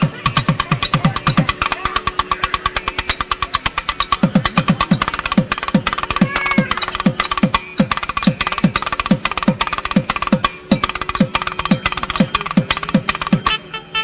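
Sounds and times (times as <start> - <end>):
faint steady drone: 0.0 - 14.0
fast drum rhythm: 0.0 - 14.0.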